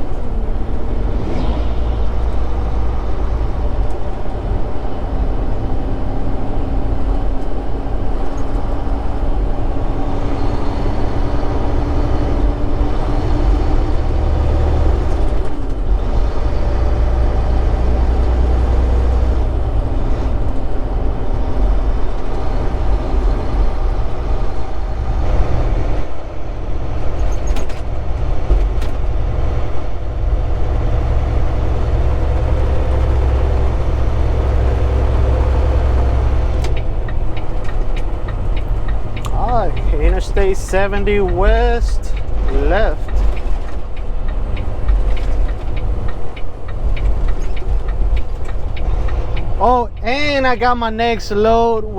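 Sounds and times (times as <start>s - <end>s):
road noise: 0.0s - 51.9s
truck diesel engine running: 0.0s - 51.9s.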